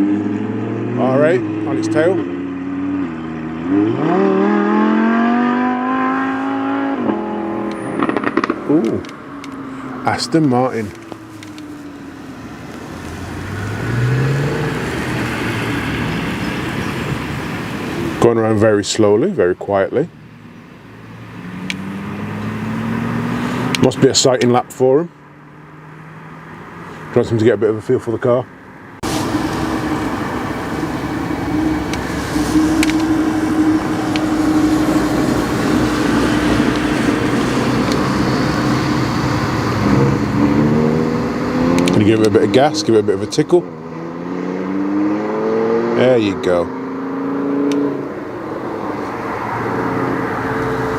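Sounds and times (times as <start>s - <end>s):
car driving past slowly: 0.0s - 18.2s, 20.3s - 24.0s, 28.5s - 50.9s.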